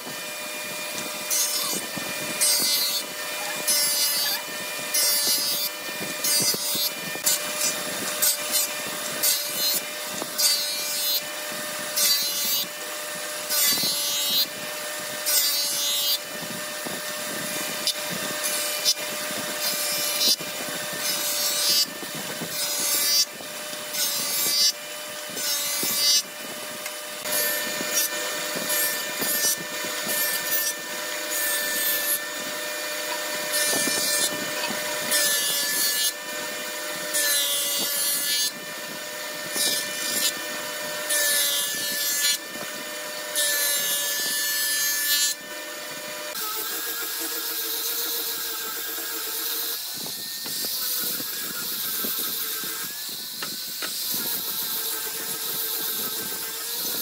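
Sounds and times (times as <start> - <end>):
jointer machine humming: 0.0 - 51.6
cutterhead cutting wood: 0.0 - 57.0.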